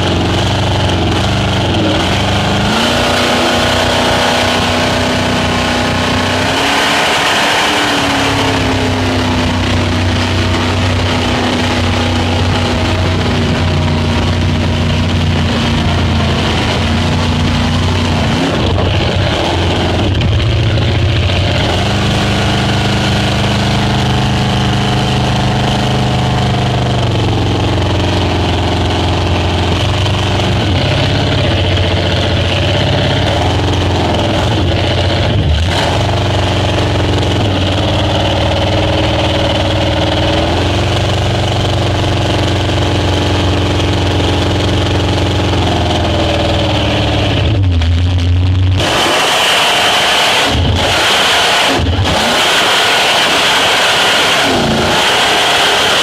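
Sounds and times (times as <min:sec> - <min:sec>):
speedboat engine running: 0:00.0 - 0:56.0.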